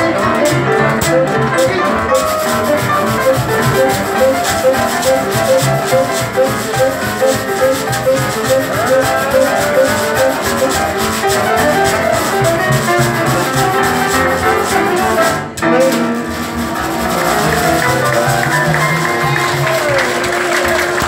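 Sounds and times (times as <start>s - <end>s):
washboard scraped in rhythm: 0.0s - 20.3s
hot jazz band playing: 0.0s - 21.0s
piano: 0.0s - 21.0s.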